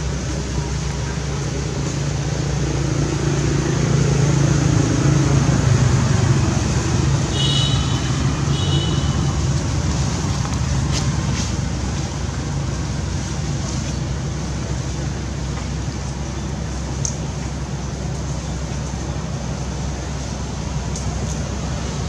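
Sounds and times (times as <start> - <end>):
traffic passing: 0.0 - 22.0
vehicle engine running: 0.0 - 22.0.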